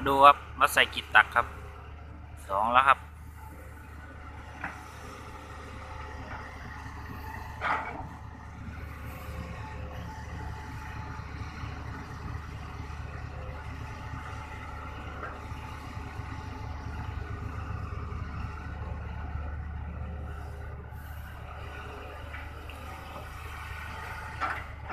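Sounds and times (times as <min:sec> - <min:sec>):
excavator diesel engine: 0:00.0 - 0:24.9.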